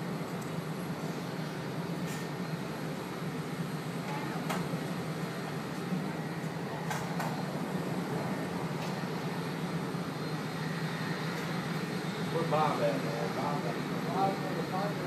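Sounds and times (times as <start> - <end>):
low hum of airport ramp noise: 0.0 - 15.0.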